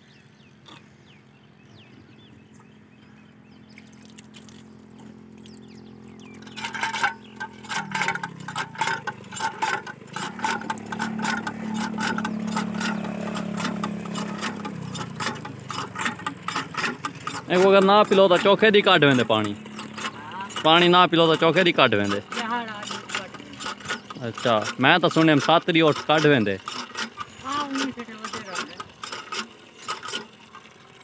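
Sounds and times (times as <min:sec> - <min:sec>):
low motor hum: 0:00.0 - 0:31.0
rapid irregular clicking and clinking: 0:04.0 - 0:31.0.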